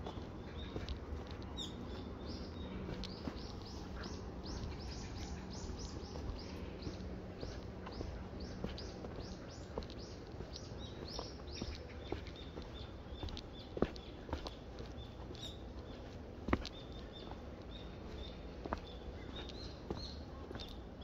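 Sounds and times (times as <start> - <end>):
low background rumble: 0.0 - 21.0
songbird chirping: 0.0 - 21.0.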